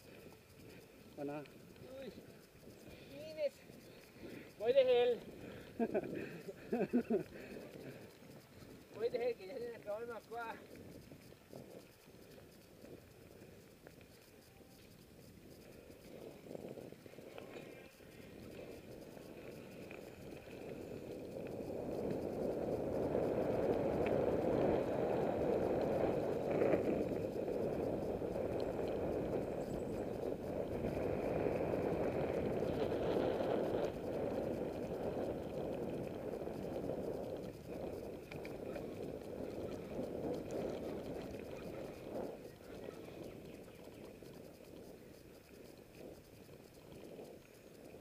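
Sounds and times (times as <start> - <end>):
bike tyres rumbling on dirt road: 0.0 - 48.0.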